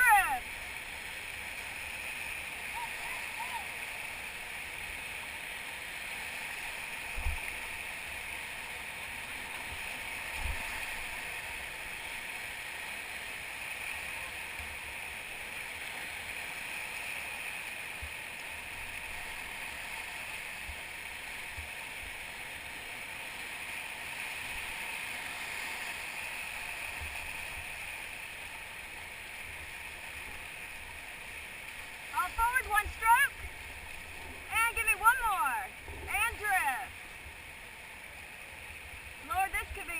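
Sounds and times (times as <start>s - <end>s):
river whitewater rushing: 0.0s - 39.9s.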